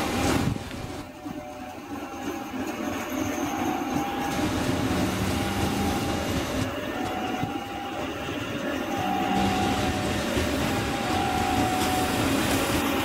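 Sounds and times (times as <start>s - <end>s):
train wheels rumbling on rails: 0.0s - 13.0s
faint steady tones: 0.9s - 13.0s.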